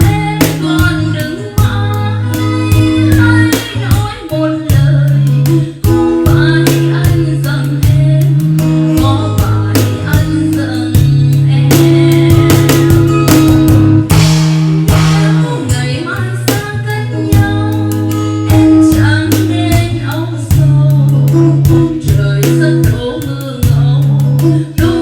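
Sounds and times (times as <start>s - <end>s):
person singing: 0.0s - 14.1s, 14.9s - 25.0s
deep bass line: 0.0s - 25.0s
guitars strumming: 0.0s - 25.0s.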